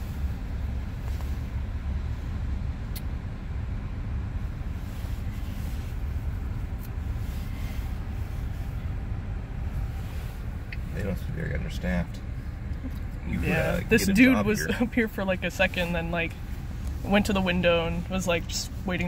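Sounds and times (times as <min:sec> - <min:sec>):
car idling from inside cabin: 0:00.0 - 0:19.0.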